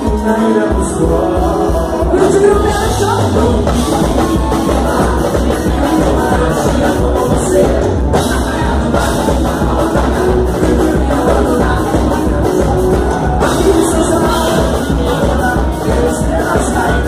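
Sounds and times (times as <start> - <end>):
live band playing: 0.0 - 17.0
man singing: 0.0 - 17.0.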